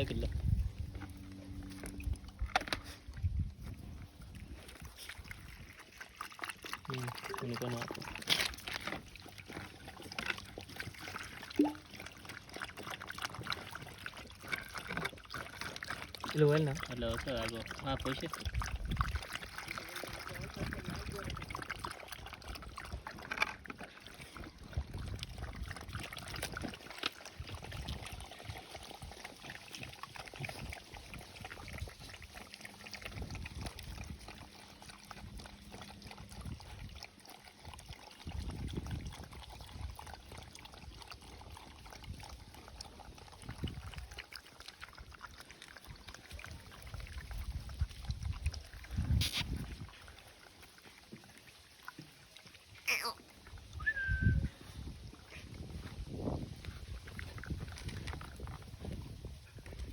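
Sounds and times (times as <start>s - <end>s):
dogs lapping milk: 0.0s - 59.9s.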